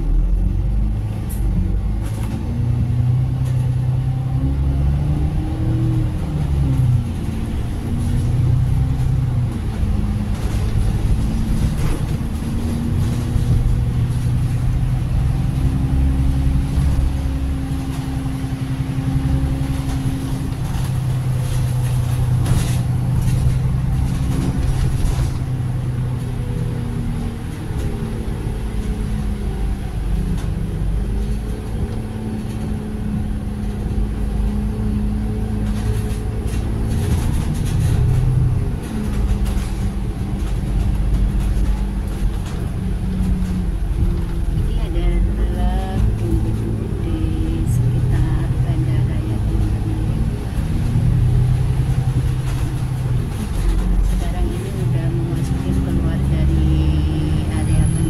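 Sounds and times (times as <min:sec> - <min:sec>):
diesel bus engine: 0:00.0 - 0:58.0
road rumble: 0:00.0 - 0:58.0.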